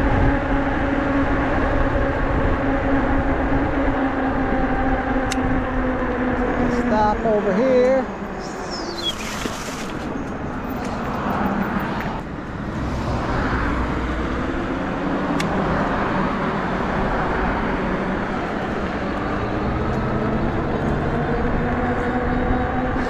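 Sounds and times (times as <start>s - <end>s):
tyre road noise: 0.0s - 23.0s
wind on microphone: 0.0s - 23.0s.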